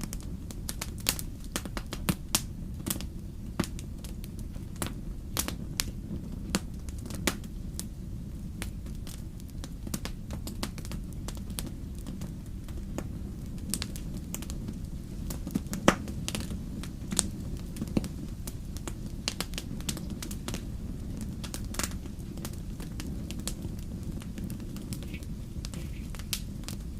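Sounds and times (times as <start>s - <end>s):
fire pops and snaps: 0.0s - 26.9s
low fire rumble: 0.0s - 26.9s
wood fire crackling: 0.0s - 26.9s.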